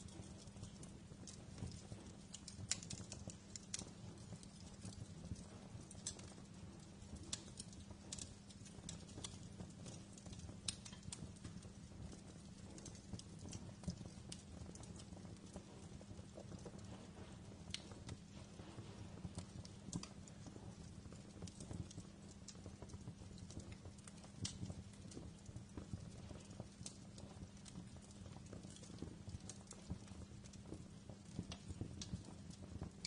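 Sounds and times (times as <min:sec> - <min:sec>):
low steady hum: 0:00.0 - 0:33.0
wood fire crackling: 0:00.0 - 0:33.0.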